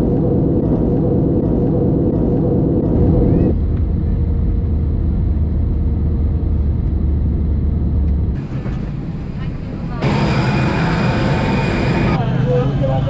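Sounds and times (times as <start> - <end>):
jet engine rumble in cabin: 0.0 - 12.2.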